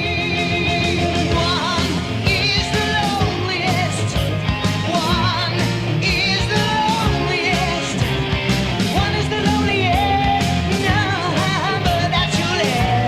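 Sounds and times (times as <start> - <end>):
rock music with singing: 0.0 - 13.0.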